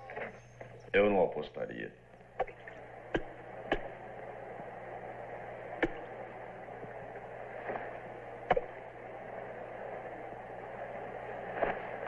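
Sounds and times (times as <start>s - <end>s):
faint hum: 0.0s - 12.0s
low hiss: 0.0s - 12.0s.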